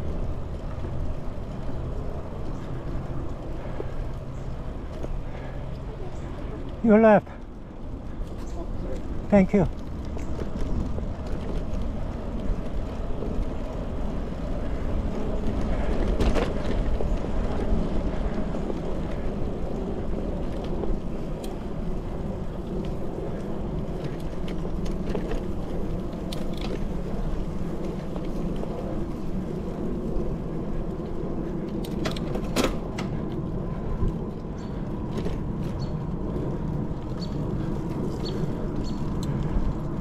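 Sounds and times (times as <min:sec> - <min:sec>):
bicycle tyres rolling on asphalt: 0:00.0 - 0:40.0
wind noise: 0:00.0 - 0:40.0.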